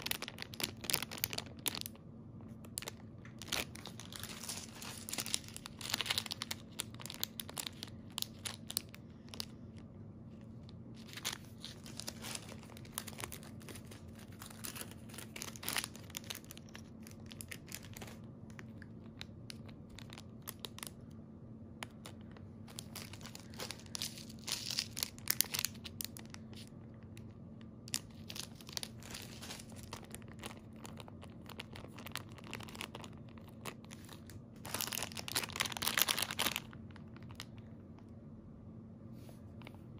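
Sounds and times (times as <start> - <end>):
plastic bags crinkling: 0.0 - 9.8, 10.9 - 21.1, 21.8 - 37.8.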